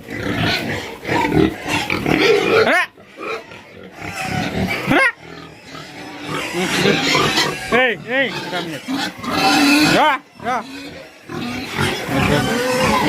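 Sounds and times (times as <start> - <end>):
pigs grunting and squealing: 0.0 - 13.0.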